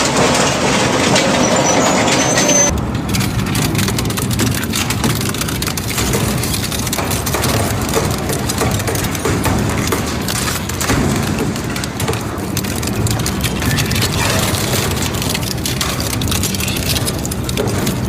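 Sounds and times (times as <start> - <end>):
material crackling and clattering: 0.0 - 18.0.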